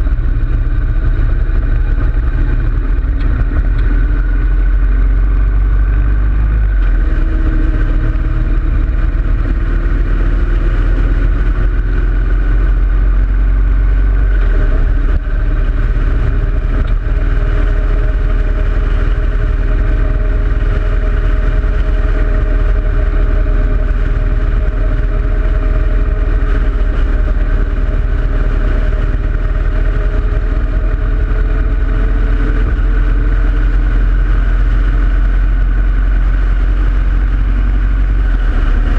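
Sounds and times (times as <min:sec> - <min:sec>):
motorcycle engine running: 0:00.0 - 0:38.9
wind rumble on microphone: 0:00.0 - 0:38.9.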